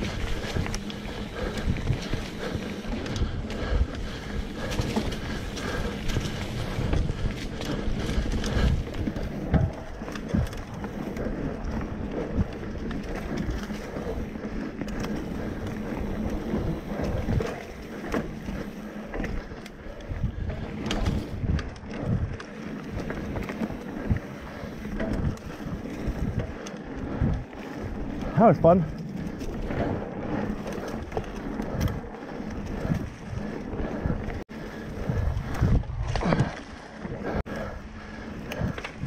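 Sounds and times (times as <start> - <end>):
bike knocking and rattling: 0.0 - 39.0
bike tyres rumbling on dirt: 0.0 - 39.0
wind buffeting microphone: 0.0 - 39.0.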